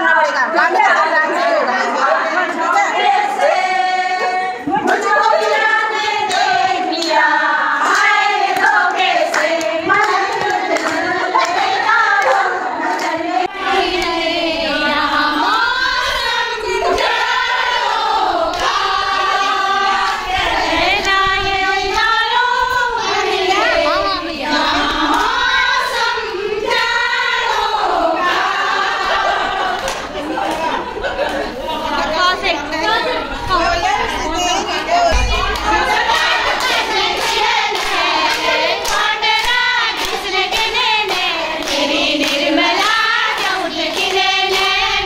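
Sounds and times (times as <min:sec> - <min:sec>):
women singing together: 0:00.0 - 0:45.0.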